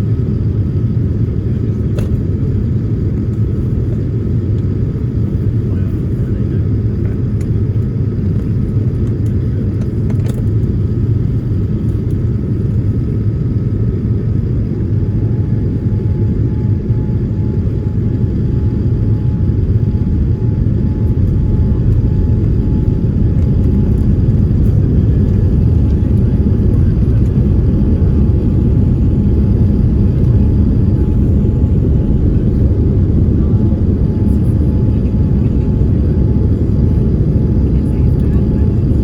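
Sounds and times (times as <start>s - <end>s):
faint steady whine: 0.0s - 39.0s
jet engine cabin rumble: 0.0s - 39.0s.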